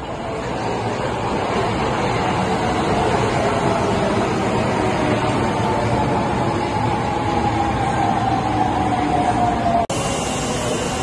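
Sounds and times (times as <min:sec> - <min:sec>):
train wheels rumbling on rails: 0:00.0 - 0:11.0
train whine: 0:00.0 - 0:11.0.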